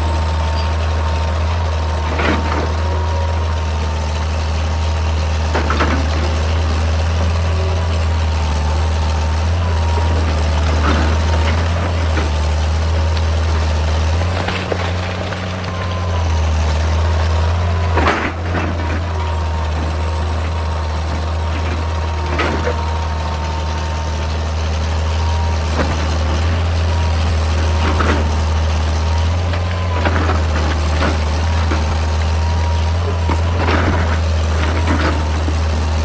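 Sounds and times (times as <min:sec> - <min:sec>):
diesel engine droning: 0:00.0 - 0:36.0.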